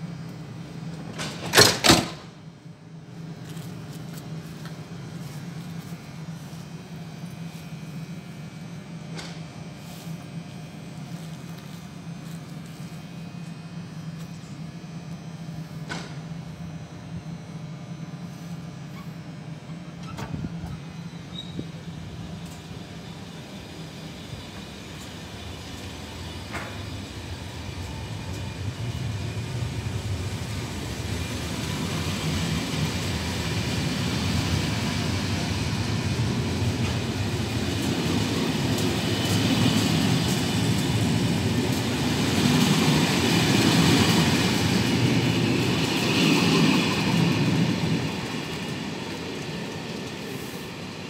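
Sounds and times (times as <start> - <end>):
train wheels on rails: 0.0 - 2.4, 3.1 - 8.2, 8.8 - 14.6, 15.6 - 16.6, 20.0 - 51.0.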